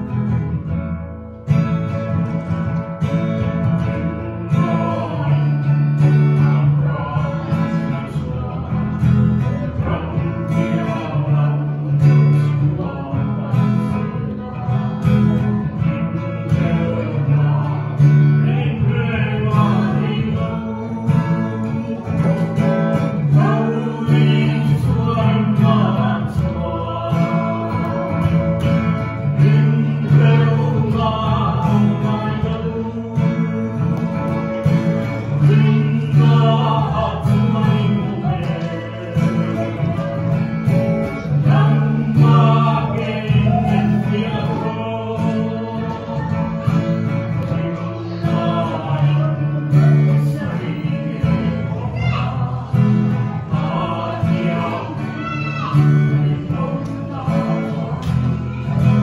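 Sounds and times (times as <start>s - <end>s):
acoustic guitar strumming: 0.0s - 59.0s
man and woman singing: 3.0s - 59.0s.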